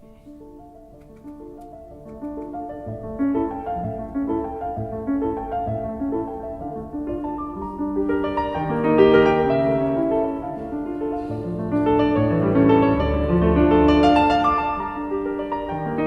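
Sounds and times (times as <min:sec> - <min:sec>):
piano music with bass line: 0:00.0 - 0:16.0.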